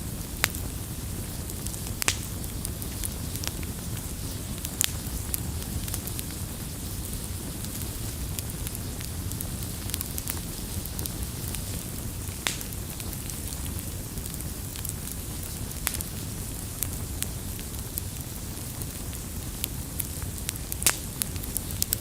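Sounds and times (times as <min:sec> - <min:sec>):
campfire crackling: 0:00.0 - 0:22.0
low fire rumble: 0:00.0 - 0:22.0
sharp fire pops: 0:00.0 - 0:22.0.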